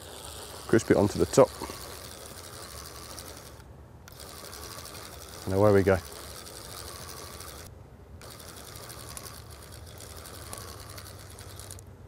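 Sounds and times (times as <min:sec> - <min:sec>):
fishing reel whirring: 0:00.0 - 0:11.9.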